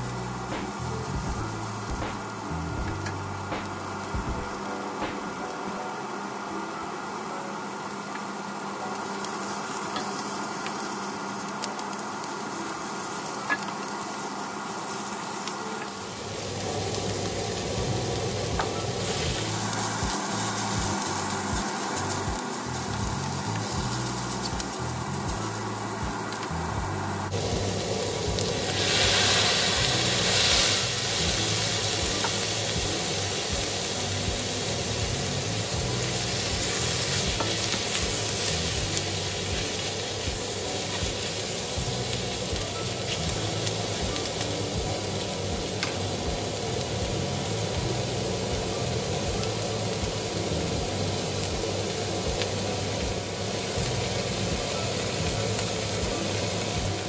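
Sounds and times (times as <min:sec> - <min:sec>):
food sizzling in a wok: 0:00.0 - 0:57.0.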